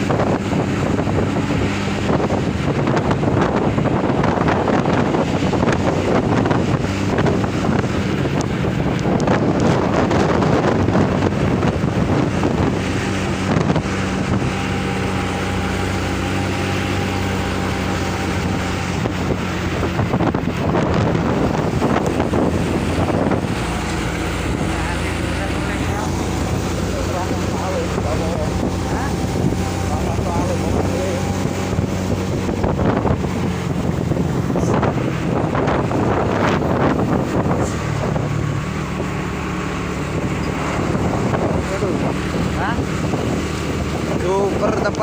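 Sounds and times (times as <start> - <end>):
road noise: 0.0 - 45.0
truck engine running: 0.0 - 45.0
wind buffeting microphone: 0.0 - 45.0.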